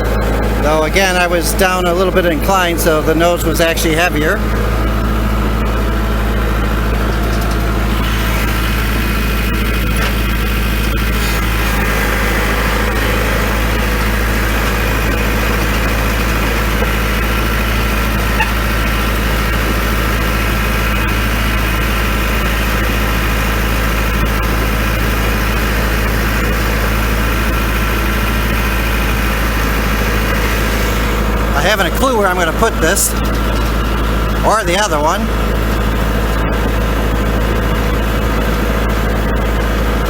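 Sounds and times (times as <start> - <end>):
tractor diesel engine droning: 0.0 - 40.0.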